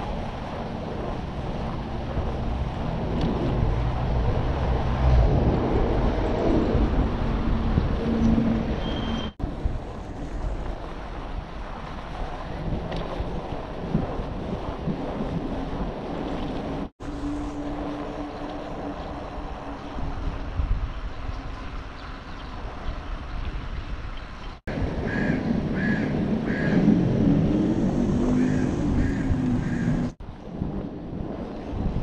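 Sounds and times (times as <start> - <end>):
low rumble: 0.0 - 32.0
wind rushing over microphone: 0.0 - 32.0.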